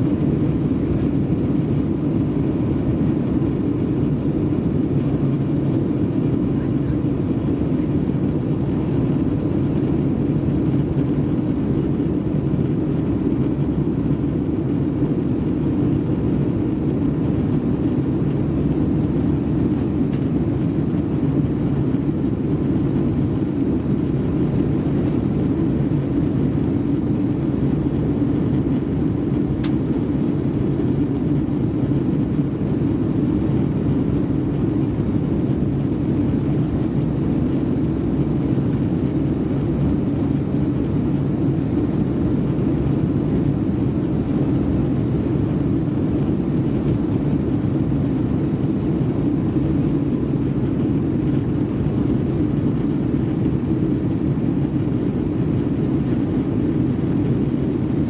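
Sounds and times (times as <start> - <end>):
aircraft cabin rumble: 0.0 - 58.0
faint steady hum: 0.0 - 58.0.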